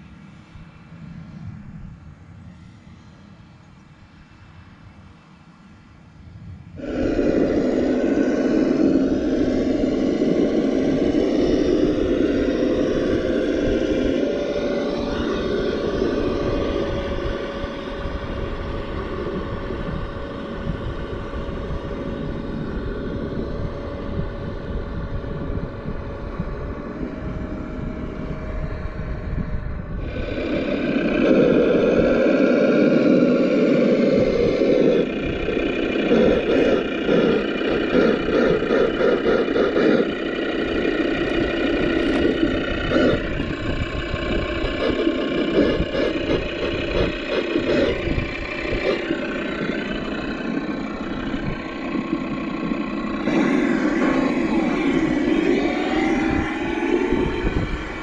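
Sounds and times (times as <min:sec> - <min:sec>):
simulated truck engine: 0:00.0 - 0:58.0.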